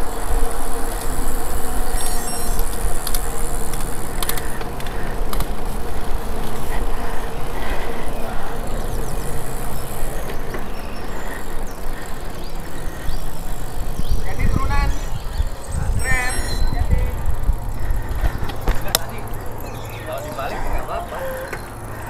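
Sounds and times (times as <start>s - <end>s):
traffic passing: 0.0s - 22.0s
wind and road noise: 0.0s - 22.0s.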